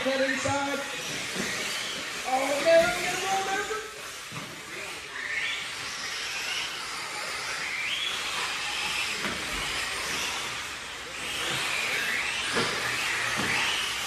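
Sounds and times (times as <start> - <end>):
electric model cars whining: 0.0 - 14.0.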